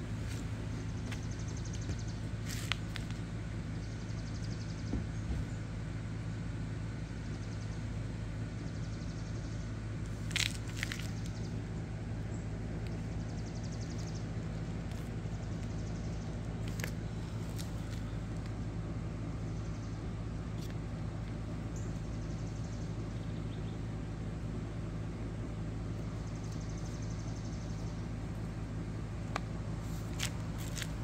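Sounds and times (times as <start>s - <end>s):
engine idling hum: 0.0s - 31.0s.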